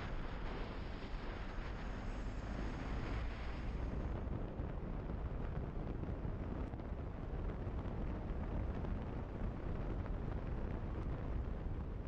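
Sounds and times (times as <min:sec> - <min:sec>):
road and engine noise: 0:00.0 - 0:12.0.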